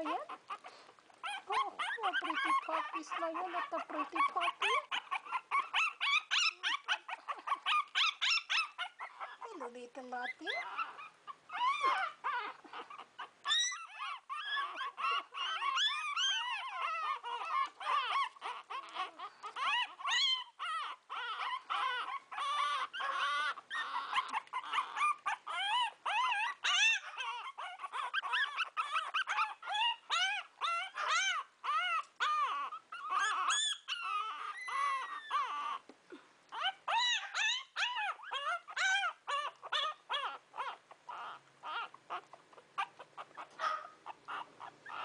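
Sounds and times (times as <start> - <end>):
puppies whining and whimpering: 0.0 - 45.0.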